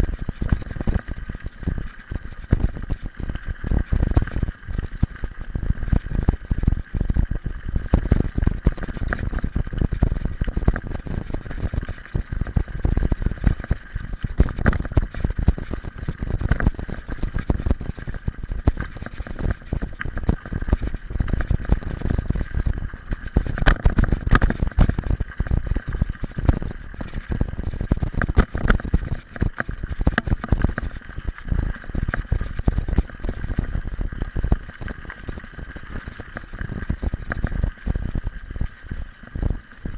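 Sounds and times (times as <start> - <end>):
bike rattling: 0.0 - 39.9
low wind rumble: 0.0 - 39.9.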